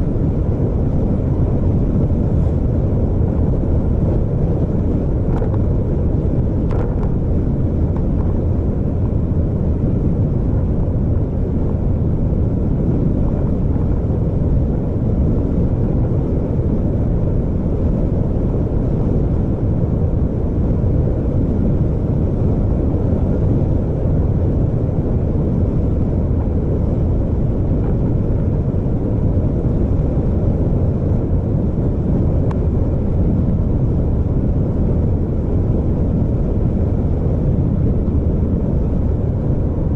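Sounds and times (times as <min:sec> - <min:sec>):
vehicle engine and tyre rumble: 0:00.0 - 0:39.9.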